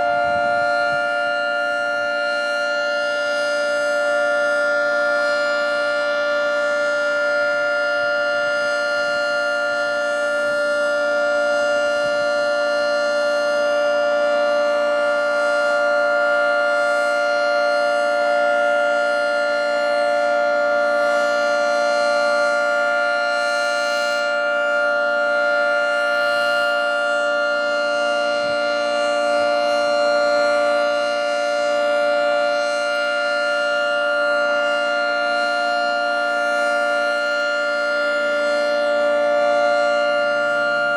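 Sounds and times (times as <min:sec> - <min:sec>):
warning siren steady chord: 0:00.0 - 0:40.9.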